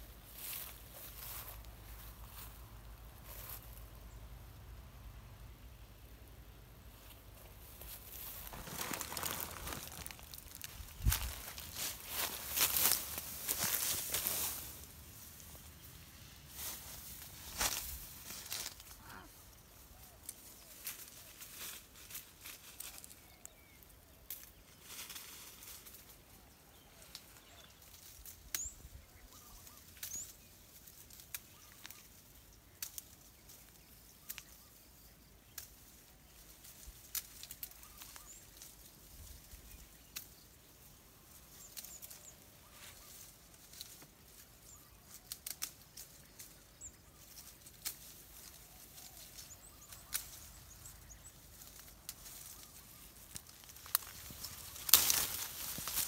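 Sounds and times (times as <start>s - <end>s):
leaves and twigs rustling: 0.0s - 56.0s
hands handling fruit and branches: 6.9s - 28.9s, 29.5s - 56.0s.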